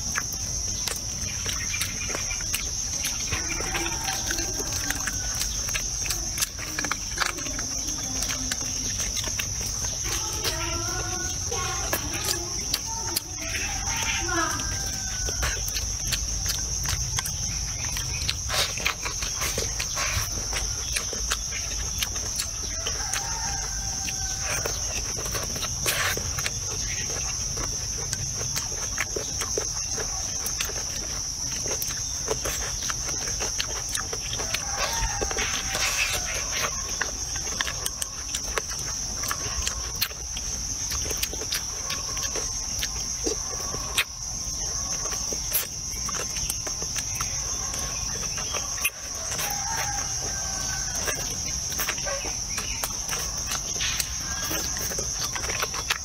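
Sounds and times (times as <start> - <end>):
chewing: 0.0 - 56.0
insects chirring: 0.0 - 56.0.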